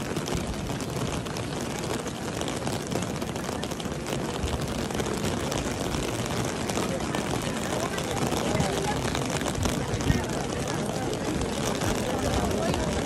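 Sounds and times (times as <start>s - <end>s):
heavy rain on stone pavement: 0.0s - 13.0s
murmur of crowd voices: 0.0s - 13.0s.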